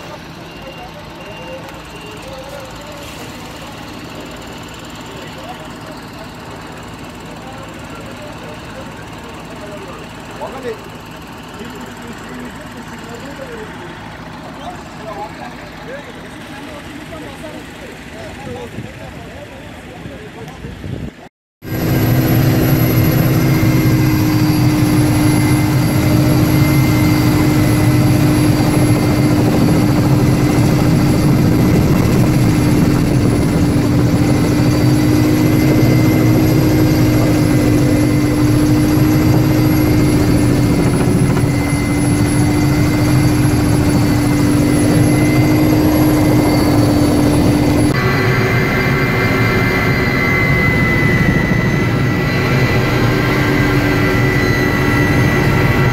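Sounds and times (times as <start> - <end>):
helicopter rotor and turbine: 0.0 - 55.9.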